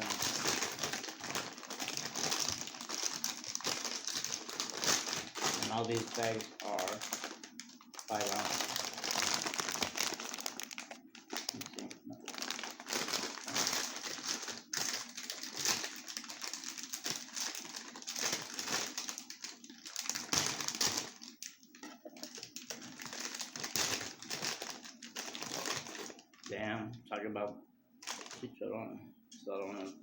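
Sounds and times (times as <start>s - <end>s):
plastic snack bag crinkling: 0.0s - 26.5s, 28.0s - 28.5s.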